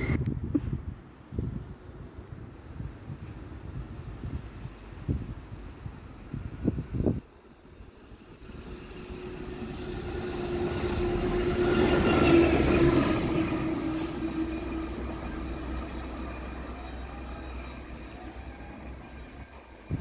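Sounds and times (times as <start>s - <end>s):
diesel locomotive passing: 3.2s - 20.0s.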